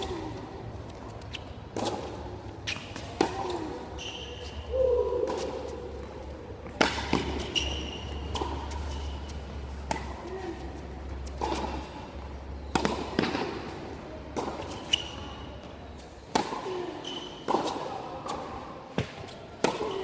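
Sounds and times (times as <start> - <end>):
tennis ball hit by rackets: 0.0 - 3.8, 5.2 - 10.5, 11.2 - 15.2, 16.3 - 16.7, 17.4 - 20.0
tennis ball bouncing on court: 0.0 - 4.2, 5.2 - 20.0.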